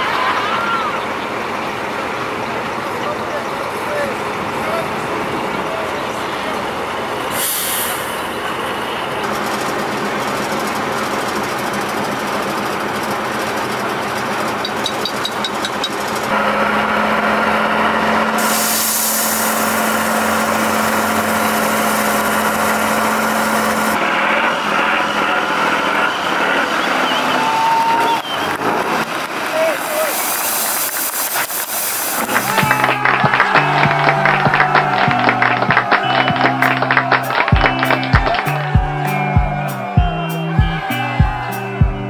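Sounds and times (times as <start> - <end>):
heavy diesel truck engines: 0.0 - 42.0.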